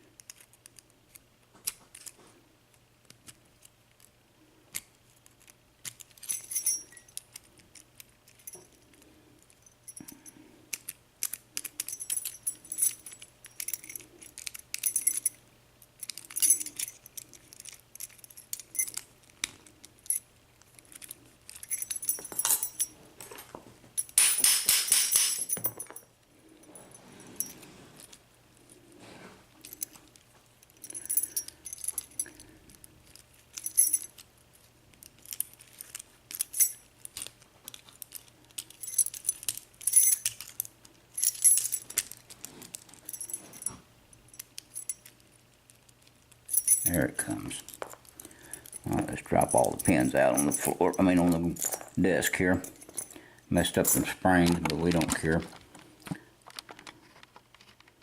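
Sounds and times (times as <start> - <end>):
small metal lock parts clicking: 0.2 - 2.2, 3.0 - 22.9, 24.0 - 26.0, 29.6 - 58.0.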